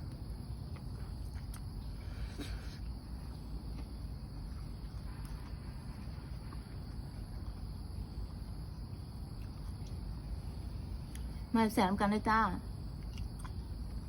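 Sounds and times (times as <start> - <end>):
crickets chirring: 0.0 - 14.0
low background rumble: 0.0 - 14.0.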